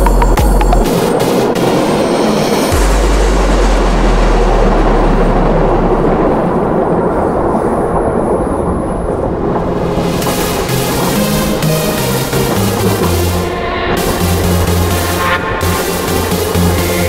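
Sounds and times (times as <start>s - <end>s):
metro train wheels rumbling: 0.1s - 17.0s
low hum: 1.1s - 17.0s.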